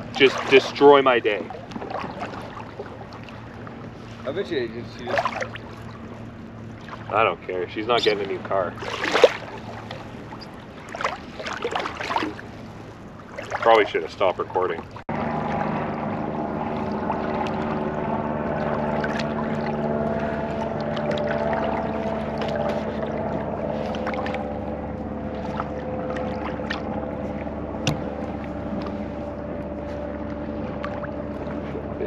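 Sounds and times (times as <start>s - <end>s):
engine droning: 0.0s - 32.0s.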